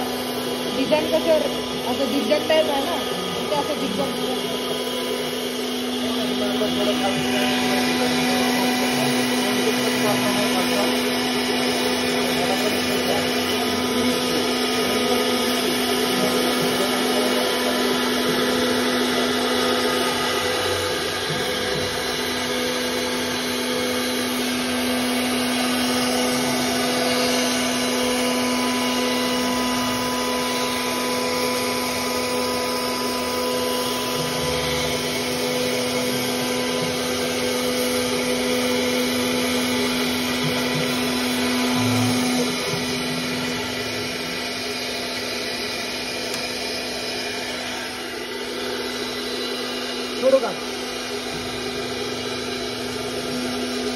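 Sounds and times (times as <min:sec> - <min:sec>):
bit cutting through board: 0:00.0 - 0:48.2
router spindle whine: 0:00.0 - 0:53.9.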